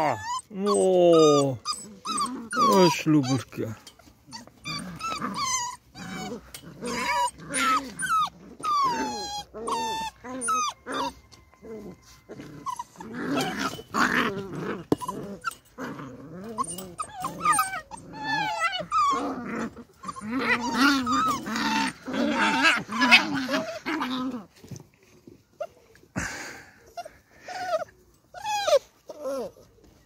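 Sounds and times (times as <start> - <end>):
puppies growling and yelping: 0.0 - 30.0.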